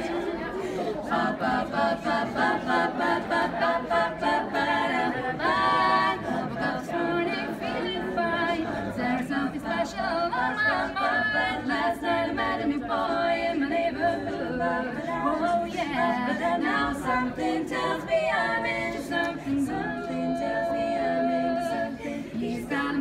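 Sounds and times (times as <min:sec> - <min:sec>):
women singing a cappella harmony: 0:00.0 - 0:23.0.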